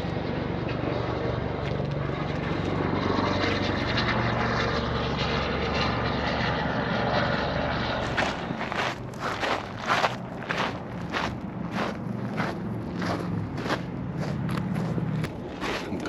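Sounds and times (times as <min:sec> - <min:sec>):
loud engine drone: 0:00.0 - 0:16.0.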